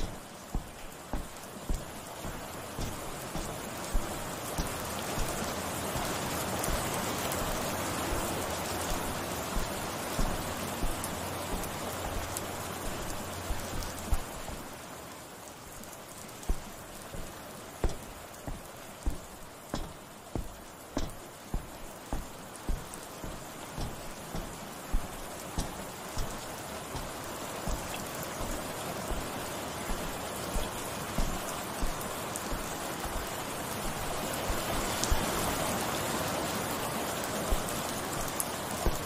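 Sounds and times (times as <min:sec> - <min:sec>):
footsteps: 0:00.0 - 0:14.8, 0:16.4 - 0:35.7, 0:37.4 - 0:39.0
steady rain falling: 0:00.0 - 0:39.0.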